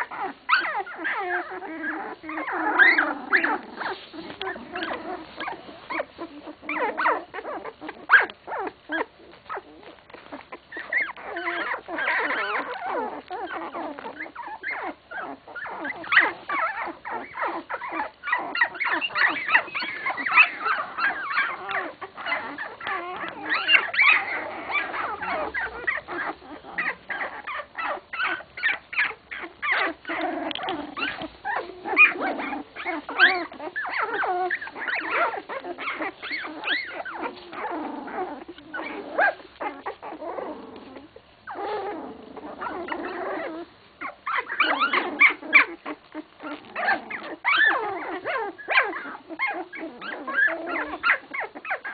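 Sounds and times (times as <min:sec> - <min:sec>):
puppies whimpering: 0:00.0 - 0:51.9.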